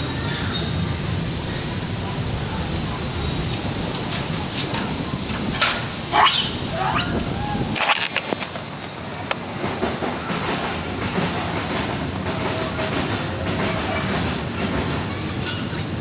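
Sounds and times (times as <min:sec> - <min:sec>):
high-pitched hissing drone: 0:00.0 - 0:16.0.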